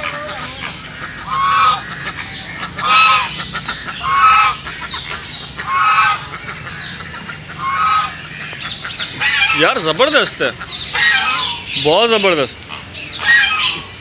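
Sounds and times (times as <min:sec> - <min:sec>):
flamingos honking: 0:00.0 - 0:14.0.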